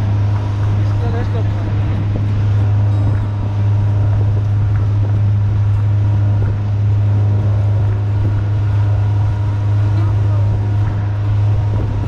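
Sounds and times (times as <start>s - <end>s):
outboard motor droning: 0.0s - 12.0s
water noise: 0.0s - 12.0s
wind noise: 0.0s - 12.0s.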